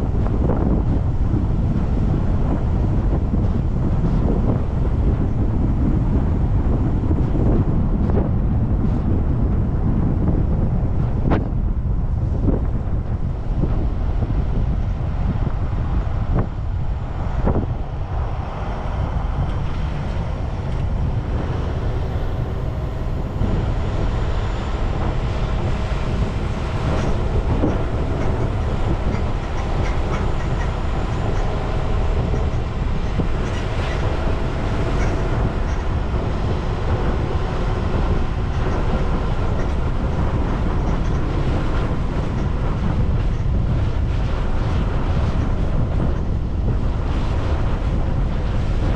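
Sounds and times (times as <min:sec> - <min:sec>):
vehicle road rumble: 0:00.0 - 0:48.9.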